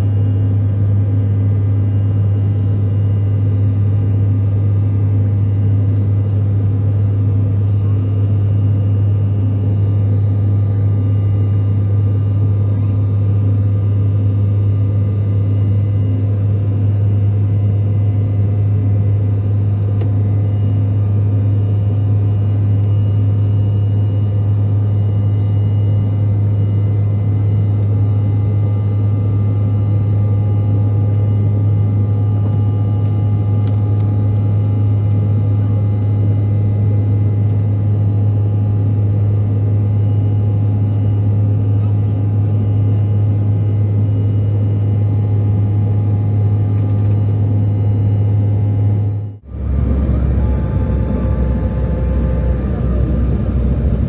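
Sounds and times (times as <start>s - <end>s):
faint steady engine tones: 0.0s - 54.0s
jet cabin engine drone: 0.0s - 54.0s.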